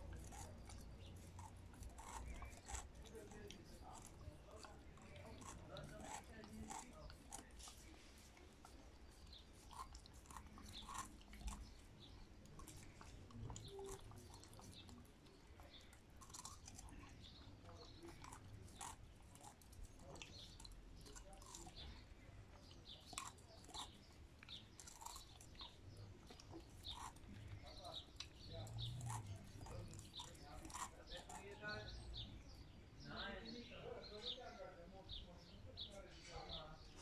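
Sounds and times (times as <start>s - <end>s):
dog licking and crunching ice: 0.0s - 32.5s.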